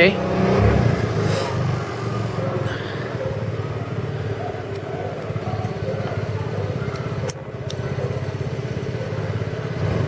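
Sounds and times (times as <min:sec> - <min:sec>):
trike engine running: 0:00.0 - 0:10.0.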